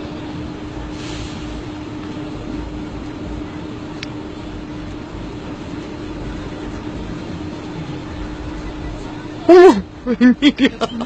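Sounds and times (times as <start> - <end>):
roadside traffic rumble: 0.0 - 11.0.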